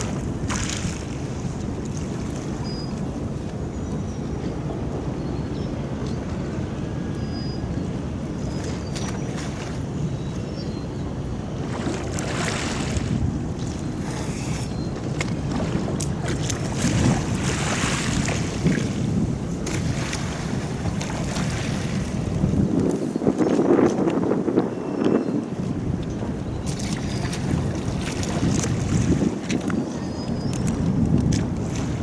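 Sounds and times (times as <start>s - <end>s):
sea water splashing against quay: 0.0s - 3.7s, 7.9s - 10.2s, 11.2s - 32.0s.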